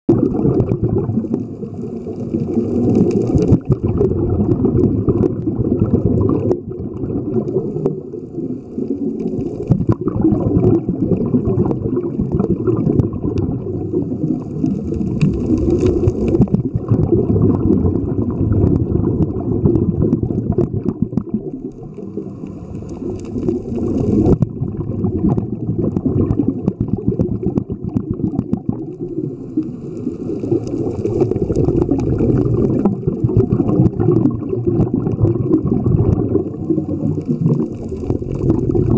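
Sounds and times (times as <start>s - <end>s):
underwater rumble and gurgling: 0.1s - 38.9s.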